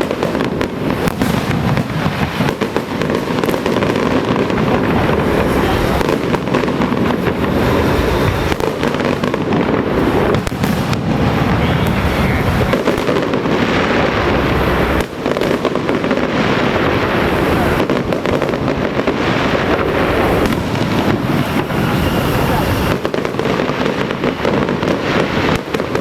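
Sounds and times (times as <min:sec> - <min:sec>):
firecrackers crackling: 0:00.0 - 0:26.0.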